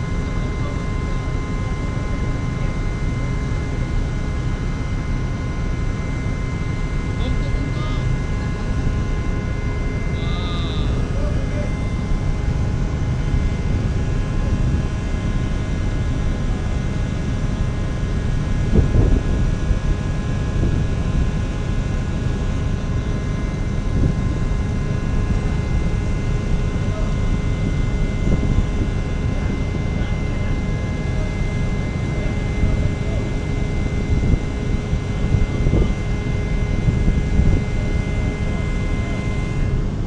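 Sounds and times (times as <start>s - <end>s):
constant whining tones: 0.0s - 40.0s
low rumble of heavy machinery: 0.0s - 40.0s.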